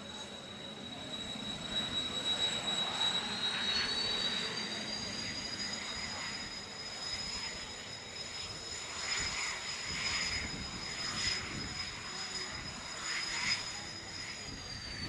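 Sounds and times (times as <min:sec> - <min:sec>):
jet engines whining while taxiing: 0:00.0 - 0:15.0.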